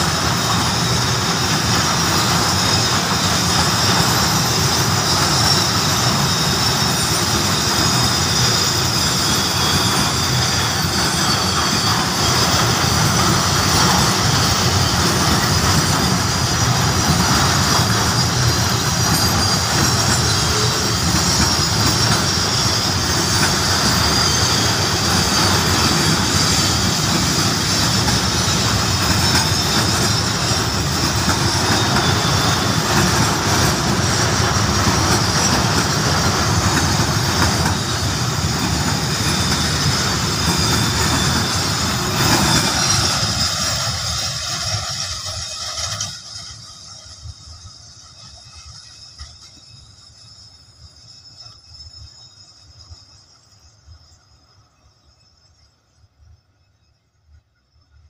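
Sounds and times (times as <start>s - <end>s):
wheel squeal: 0.0s - 56.1s
train wheels rumbling on rails: 0.0s - 56.5s.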